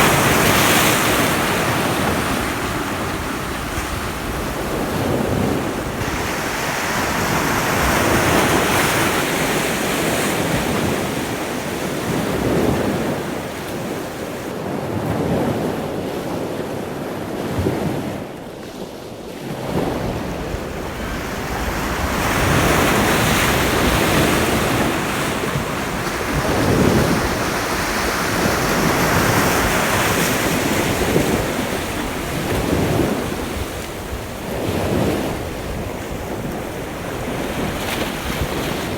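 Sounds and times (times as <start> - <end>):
ocean surf breaking: 0.0 - 18.4, 19.0 - 38.9
wind rumble on microphone: 0.0 - 38.9.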